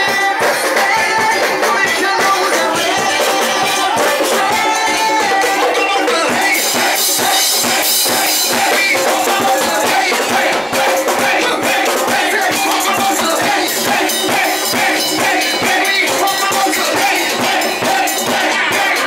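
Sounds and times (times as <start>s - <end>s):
loud dance music: 0.0s - 19.0s.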